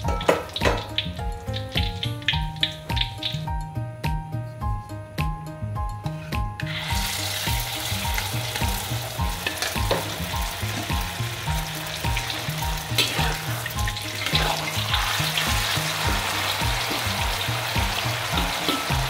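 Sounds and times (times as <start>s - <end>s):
batter sizzling in hot oil: 0.0s - 3.5s, 6.6s - 19.0s
background music with beat: 0.0s - 19.0s.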